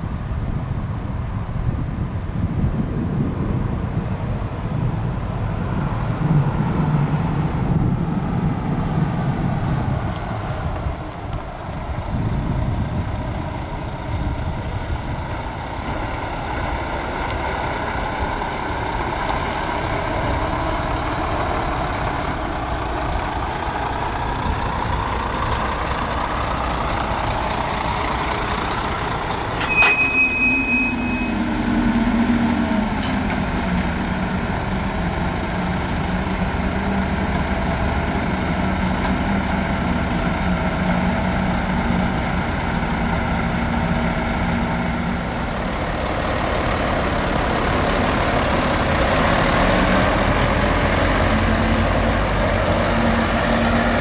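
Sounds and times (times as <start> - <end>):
truck diesel engine: 0.0 - 54.0.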